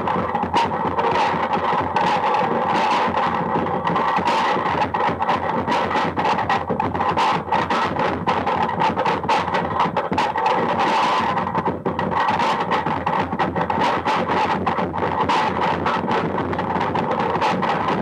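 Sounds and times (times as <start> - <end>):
harsh distorted noise music: 0.0 - 18.0.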